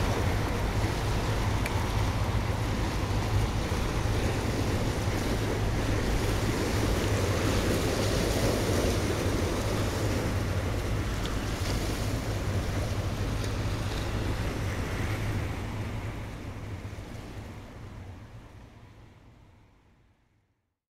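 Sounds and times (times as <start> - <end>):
water washing against shore: 0.0 - 19.0
wind buffeting microphone: 0.0 - 19.0
steady low rumble: 0.0 - 20.1.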